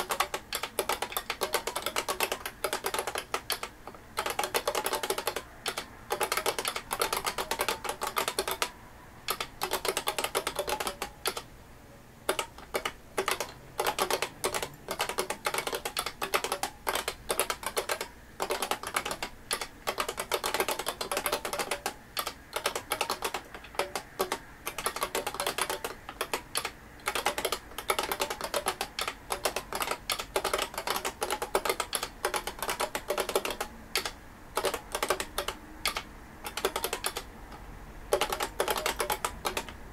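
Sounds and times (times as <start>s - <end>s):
keyboard keystroke clacks: 0.0s - 8.7s, 9.3s - 11.5s, 12.3s - 39.8s.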